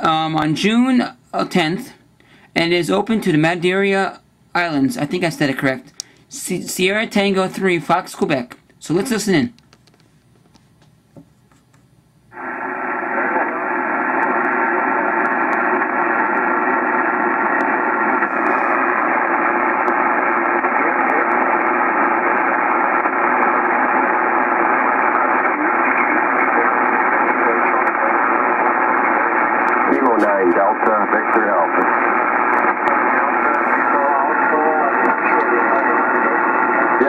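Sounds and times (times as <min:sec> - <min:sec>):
radio static hiss: 0:00.0 - 0:09.5, 0:12.3 - 0:37.0.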